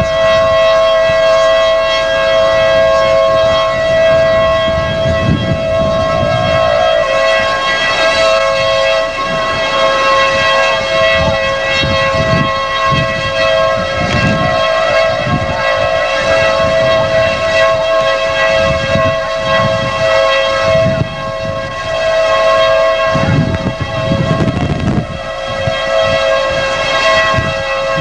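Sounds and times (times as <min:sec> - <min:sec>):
tornado warning siren two-note tone: 0:00.0 - 0:28.0
wind rumbling on microphone: 0:00.0 - 0:28.0.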